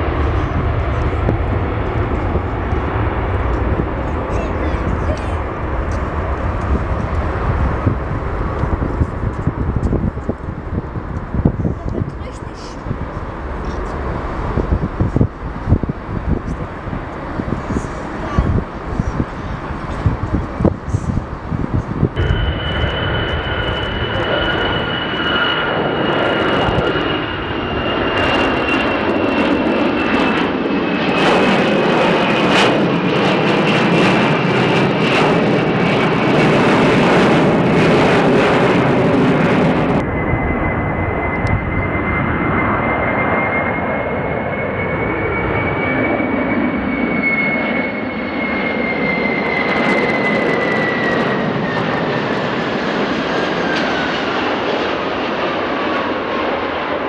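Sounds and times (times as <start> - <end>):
airliner engine noise on approach: 0.0 - 57.0
jet roaring past with high whine: 0.0 - 57.0.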